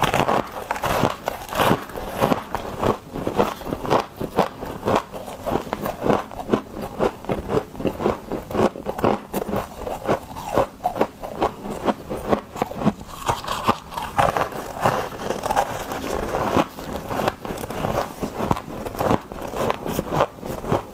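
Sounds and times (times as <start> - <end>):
ice being chewed: 0.0 - 20.9.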